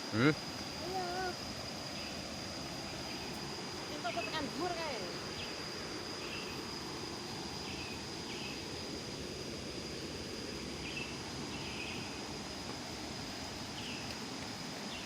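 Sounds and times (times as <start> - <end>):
high insect whine: 0.0 - 15.0.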